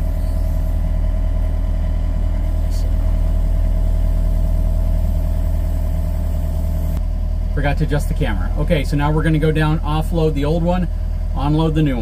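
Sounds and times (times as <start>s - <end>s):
excavator diesel engine running: 0.0s - 12.0s
machine humming: 0.0s - 12.0s.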